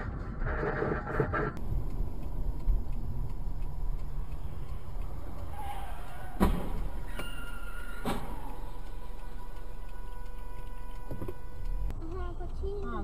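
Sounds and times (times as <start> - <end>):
car driving low rumble: 0.0 - 13.0.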